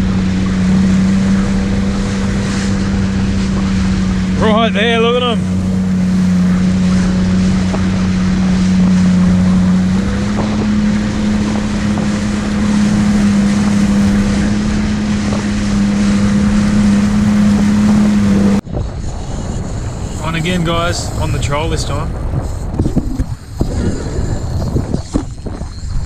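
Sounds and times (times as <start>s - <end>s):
jet ski engine running: 0.0s - 26.0s
water spray churning: 0.0s - 26.0s
wind on microphone: 0.0s - 26.0s.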